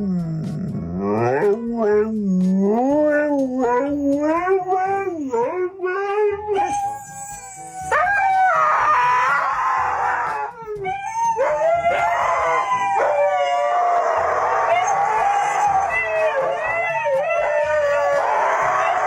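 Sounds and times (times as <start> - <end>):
dog howling: 0.0 - 19.0.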